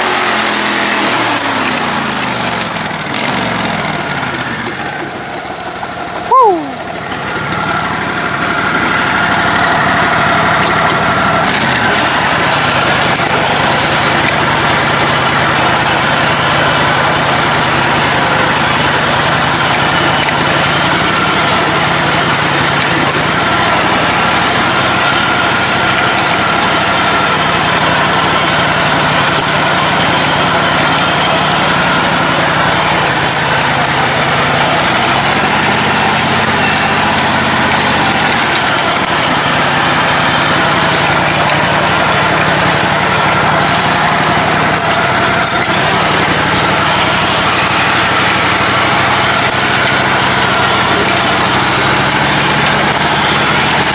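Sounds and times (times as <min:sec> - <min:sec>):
riding mower engine running: 0:00.0 - 0:53.9.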